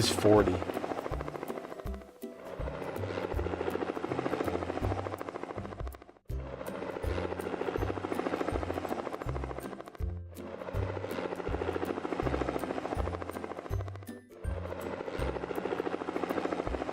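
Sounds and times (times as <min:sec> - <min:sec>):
cartoon helicopter rotor chopping: 0:00.0 - 0:16.9.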